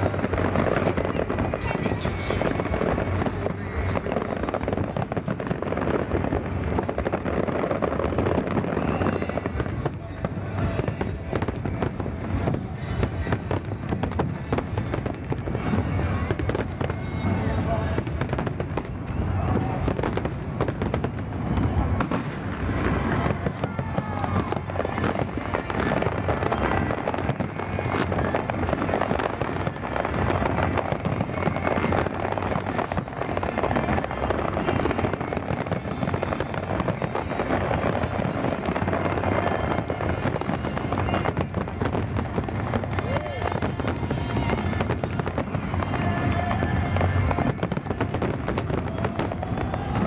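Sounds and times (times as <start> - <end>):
fireworks popping and crackling: 0.0 - 50.0.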